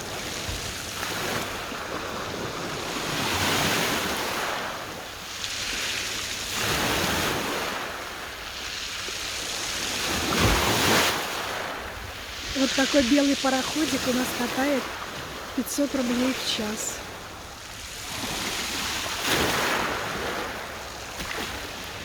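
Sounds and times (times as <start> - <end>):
small waves washing onto shore: 0.0 - 22.0.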